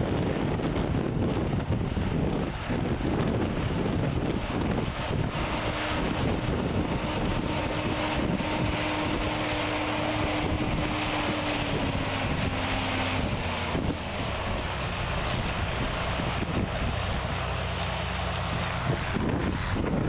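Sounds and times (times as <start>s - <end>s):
tractor engine running: 0.0s - 20.0s
wind buffeting microphone: 0.0s - 20.0s.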